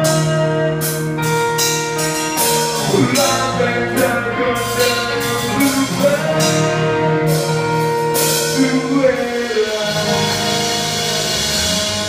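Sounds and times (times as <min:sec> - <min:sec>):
electric guitar notes: 0:00.0 - 0:12.0
rock band playing: 0:00.0 - 0:12.0.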